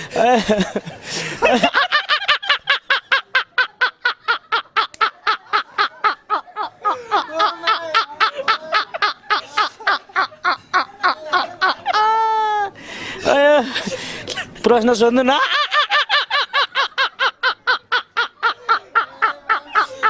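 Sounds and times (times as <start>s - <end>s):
rapid rhythmic laughter: 0.0s - 12.3s, 15.4s - 20.0s
other people laughing: 0.0s - 12.8s, 15.3s - 20.0s.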